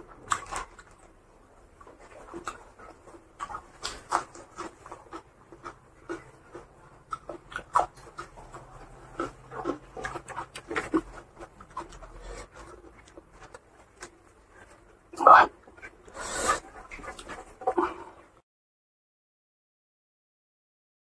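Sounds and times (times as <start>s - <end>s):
mouth chewing and lip smacks: 0.0s - 15.0s, 15.6s - 18.1s.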